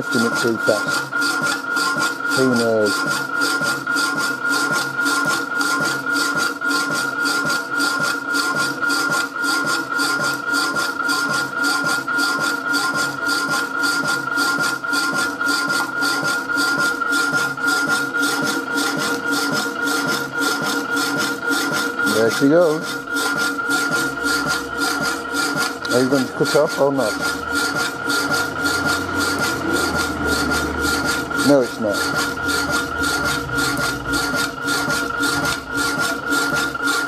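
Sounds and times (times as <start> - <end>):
constant high machine tone: 0.0 - 37.0
power hacksaw cutting steel: 0.0 - 37.0.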